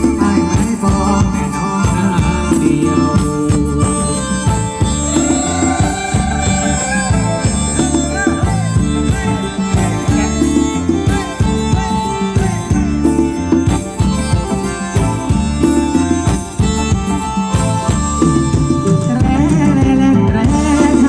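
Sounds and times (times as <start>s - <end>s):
live dance band music: 0.0s - 21.0s
steady drum beat: 0.0s - 21.0s.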